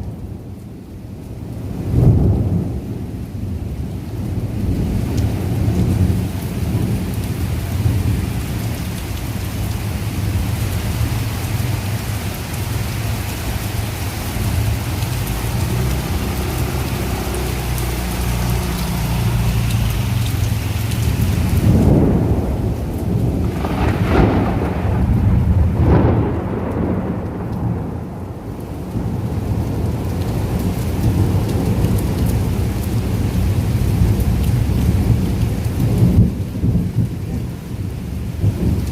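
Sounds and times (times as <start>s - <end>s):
heavy rain falling: 0.0s - 38.9s
thunder rumbling: 0.0s - 38.9s.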